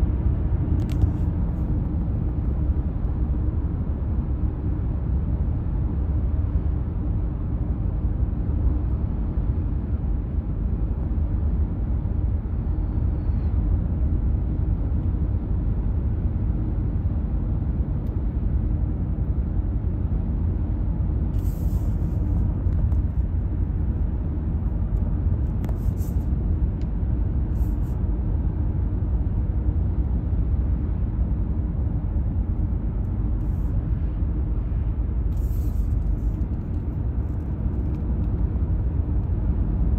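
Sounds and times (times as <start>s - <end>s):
car road rumble from inside: 0.0s - 39.9s.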